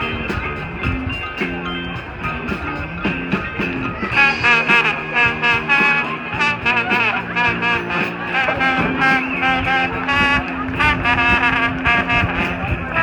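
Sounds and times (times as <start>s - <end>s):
drums keeping the beat: 0.0s - 13.0s
marching band brass melody: 0.0s - 13.0s.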